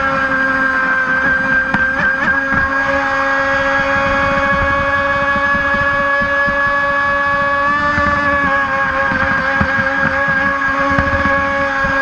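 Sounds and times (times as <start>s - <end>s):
electric motor high whine: 0.0s - 12.0s.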